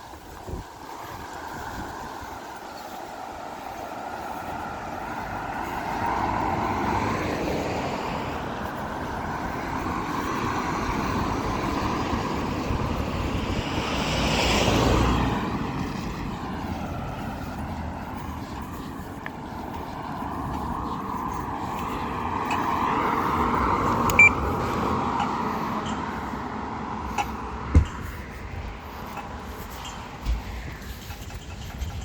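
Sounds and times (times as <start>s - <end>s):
road traffic going by: 0.0s - 32.0s
vehicle passing close: 1.0s - 32.0s.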